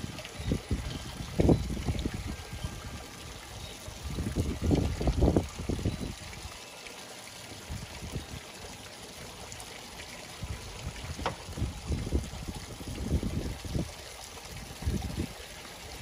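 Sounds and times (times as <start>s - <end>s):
fountain water trickling and splashing: 0.0s - 16.0s.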